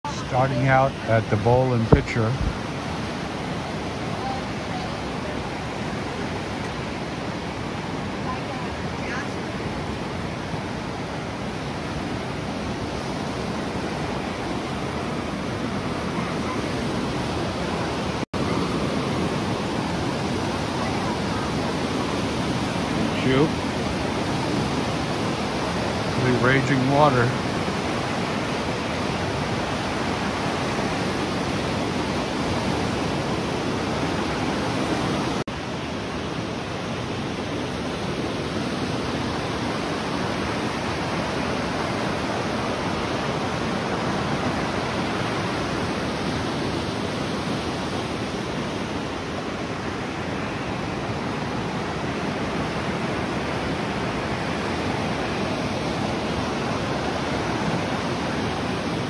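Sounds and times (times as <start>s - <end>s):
whitewater rapids rushing: 0.1s - 59.0s.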